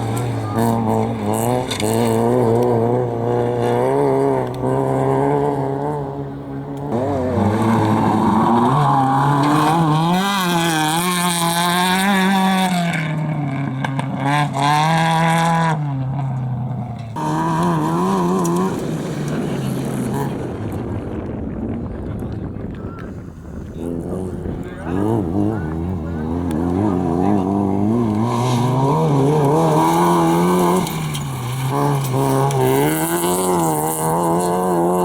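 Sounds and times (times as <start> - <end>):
engine revving at high revs: 0.0 - 20.6, 23.8 - 35.0.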